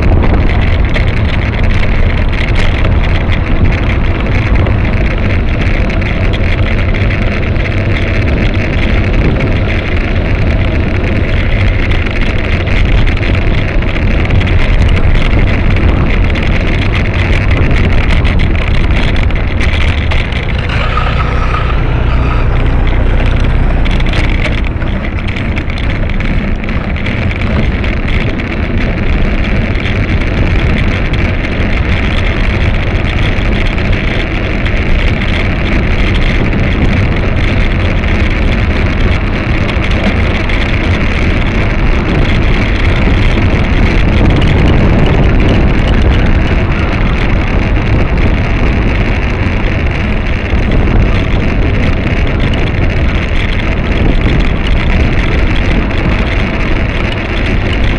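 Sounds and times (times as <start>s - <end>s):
road and traffic noise: 0.0s - 57.9s
wind rumble on microphone: 0.0s - 57.9s.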